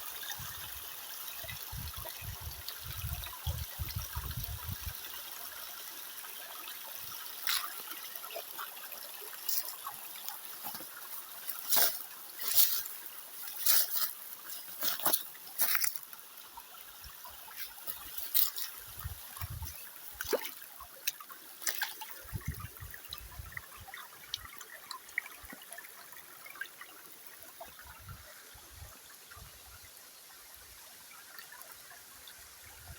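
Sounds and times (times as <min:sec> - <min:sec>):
water trickling: 0:00.0 - 0:32.9.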